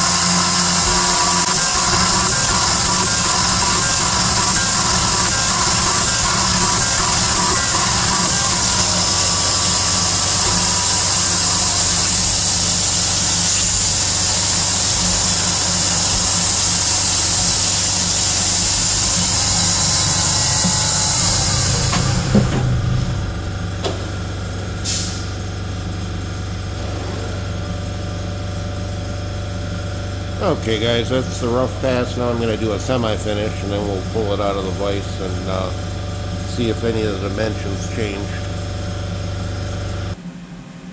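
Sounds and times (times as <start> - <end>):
milling machine cutting steel: 0.0 - 40.2
low machine hum: 0.0 - 40.9.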